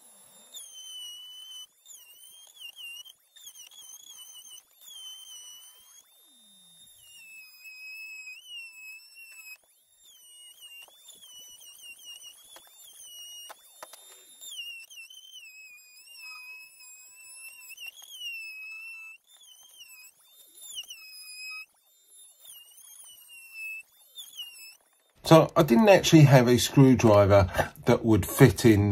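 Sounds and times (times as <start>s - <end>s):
warbling electronic tone: 0.0s - 28.9s.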